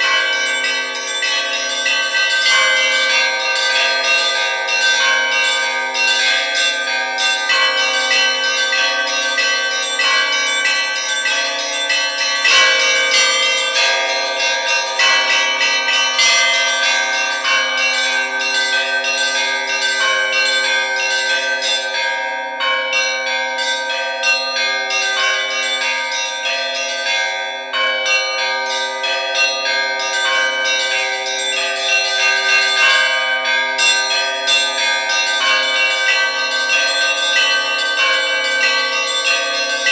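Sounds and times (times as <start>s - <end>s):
large bells ringing: 0.0s - 39.9s
small bells ringing rapidly: 0.0s - 39.9s.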